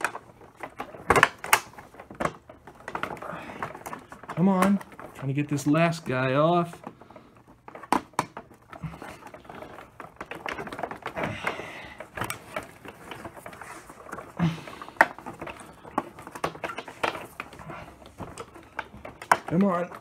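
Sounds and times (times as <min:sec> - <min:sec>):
plastic clicks creaks and knocks: 0:00.0 - 0:20.0.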